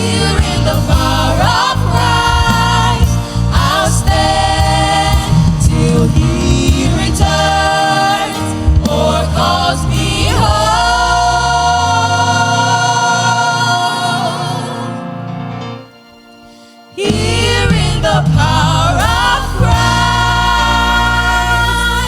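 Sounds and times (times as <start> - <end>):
choir singing with a band: 0.0 - 15.6, 16.9 - 22.0.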